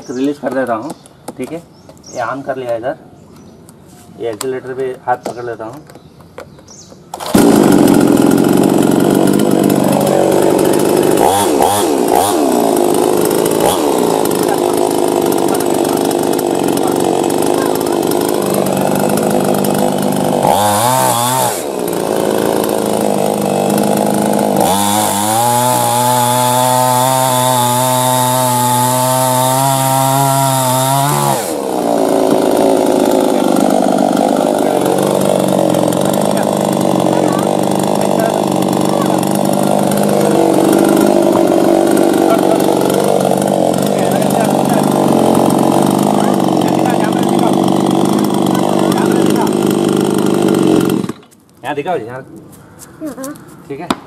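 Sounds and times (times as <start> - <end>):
chainsaw cutting wood: 6.8 - 51.8.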